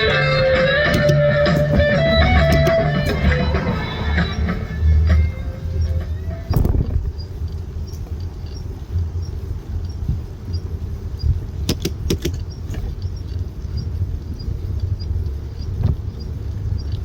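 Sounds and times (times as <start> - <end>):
rattling clicks: 0.0 - 4.5, 5.1 - 17.0
bicycle road and wind noise: 0.0 - 17.0
faint regular ticking: 0.0 - 17.0.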